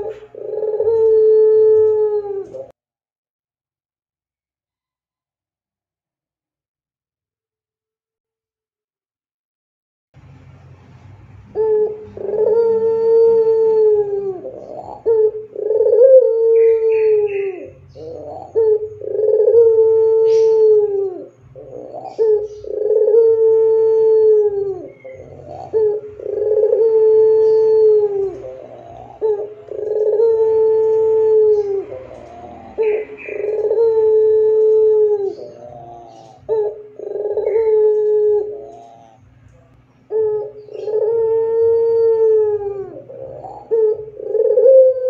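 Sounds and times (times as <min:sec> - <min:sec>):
dove cooing: 0:00.0 - 0:02.8, 0:11.4 - 0:45.0.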